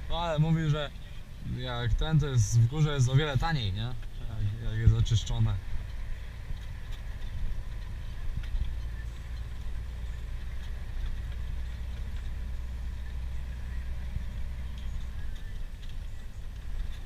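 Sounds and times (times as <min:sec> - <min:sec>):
diesel truck engine rumble: 0:00.0 - 0:17.0
light rattles: 0:00.0 - 0:17.0.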